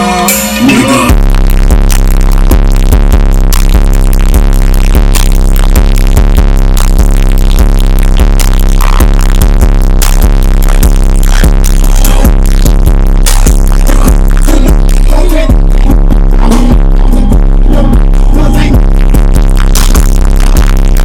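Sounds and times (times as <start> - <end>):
bass-heavy electronic music: 0.0 - 21.0.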